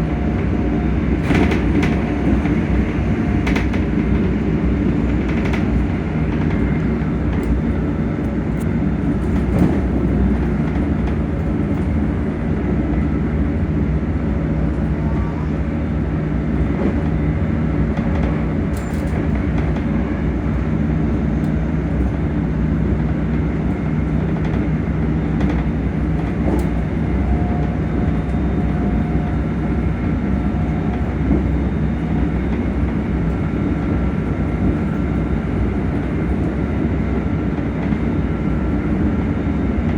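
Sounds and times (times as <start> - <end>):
train rumbling in motion: 0.0 - 39.9.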